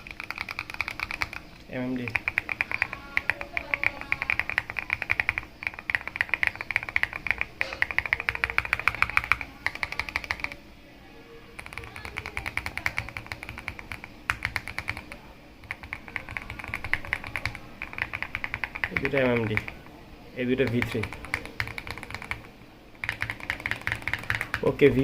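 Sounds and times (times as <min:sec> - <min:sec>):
mechanical keyboard typing: 0:00.0 - 0:10.6, 0:11.6 - 0:19.9, 0:20.5 - 0:25.0.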